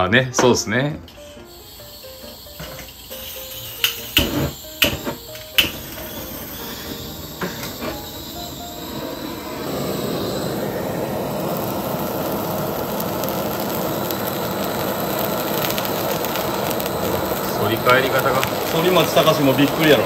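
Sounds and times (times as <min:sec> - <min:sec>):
blowtorch hissing: 0:01.1 - 0:20.0.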